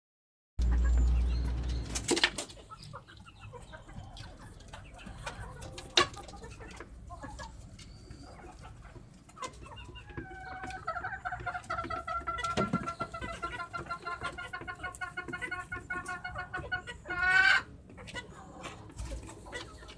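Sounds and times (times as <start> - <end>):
hens clucking: 0.6 - 19.9.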